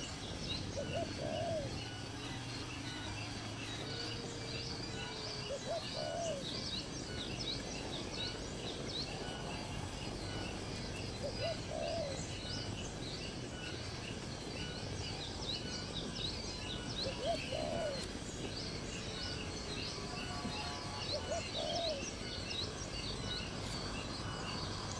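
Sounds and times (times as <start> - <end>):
steady background hiss: 0.0 - 24.9.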